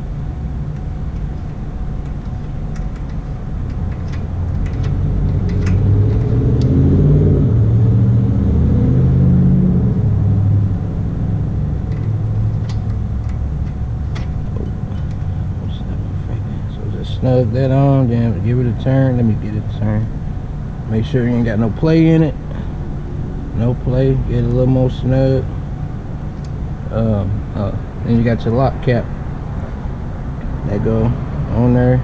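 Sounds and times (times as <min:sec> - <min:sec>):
low vehicle rumble: 0:00.0 - 0:32.0.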